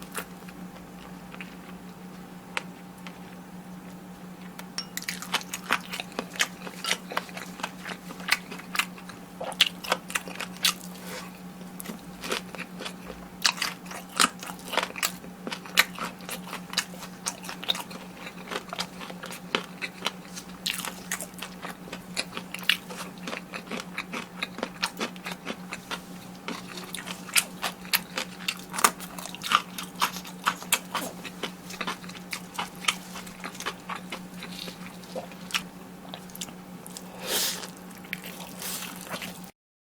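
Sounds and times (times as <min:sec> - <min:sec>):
steady low hum: 0:00.0 - 0:39.5
crunching crispy food: 0:05.0 - 0:39.5.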